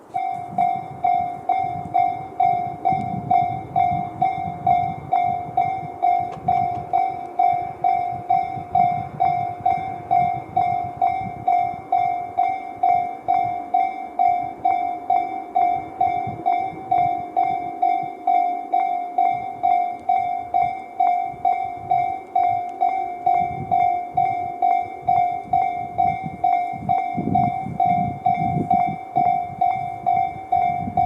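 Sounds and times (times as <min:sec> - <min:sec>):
level crossing alarm bell ringing: 0:00.0 - 0:31.0.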